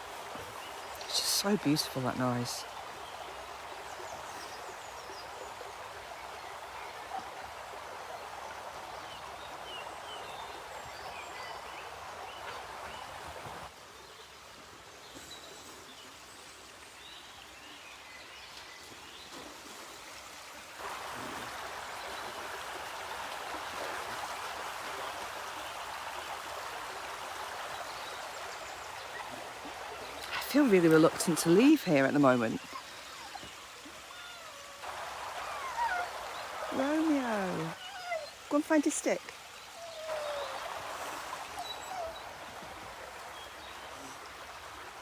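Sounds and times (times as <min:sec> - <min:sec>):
river water rushing: 0:00.0 - 0:13.8, 0:20.2 - 0:45.0.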